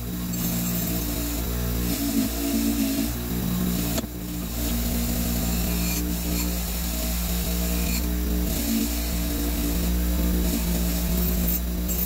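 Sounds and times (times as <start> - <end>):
bench grinder motor hum: 0.0 - 12.0.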